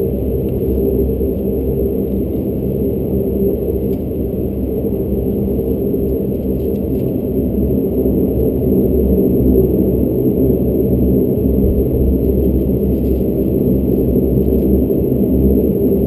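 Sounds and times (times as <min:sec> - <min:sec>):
turboprop engines droning in cabin: 0:00.0 - 0:16.0.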